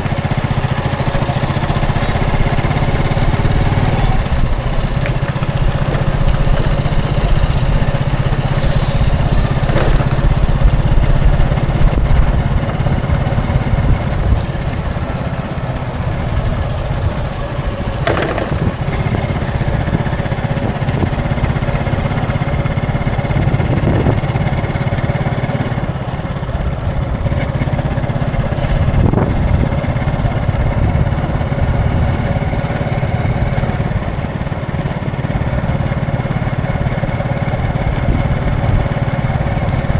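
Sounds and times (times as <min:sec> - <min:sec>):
small engines running nearby: 0:00.0 - 0:39.9
traffic hum: 0:00.0 - 0:39.9.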